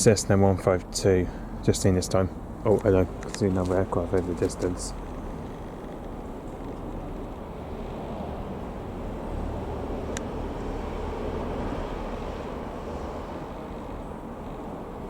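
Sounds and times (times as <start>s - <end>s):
distant light aircraft droning: 0.0s - 15.0s.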